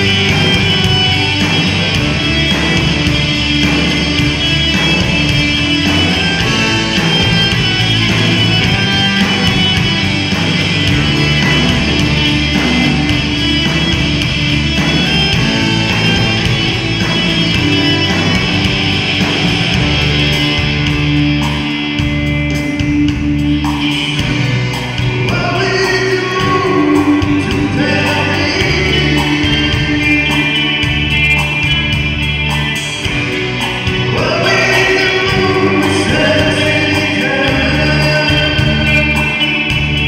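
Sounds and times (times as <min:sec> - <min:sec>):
drums with steady beat: 0:00.0 - 0:40.0
electric guitars: 0:00.0 - 0:40.0.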